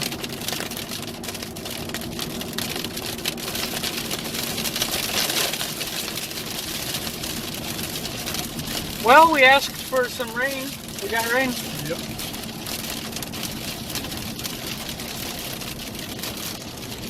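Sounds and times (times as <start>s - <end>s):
engine and road hum: 0.0s - 17.0s
heavy rain on vehicle roof: 0.0s - 17.0s.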